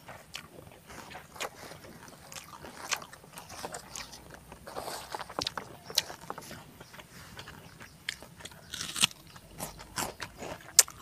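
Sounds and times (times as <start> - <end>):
person chewing crisp food: 0.0 - 11.0.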